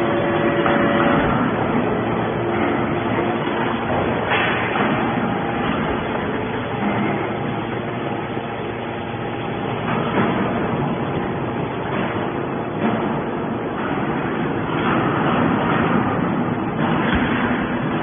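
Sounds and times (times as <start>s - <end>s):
machine drone: 0.0s - 18.0s.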